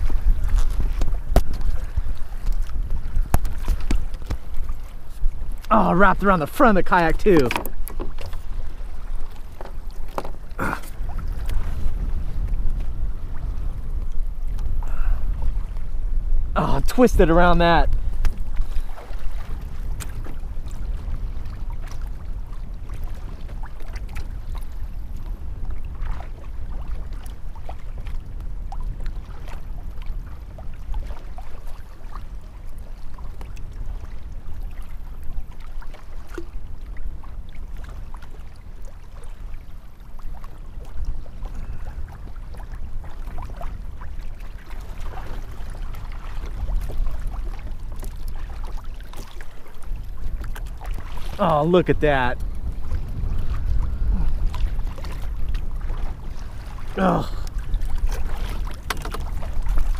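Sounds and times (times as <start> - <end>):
water lapping against kayak hull: 0.0 - 59.9
wind rumble on microphone: 0.0 - 59.9.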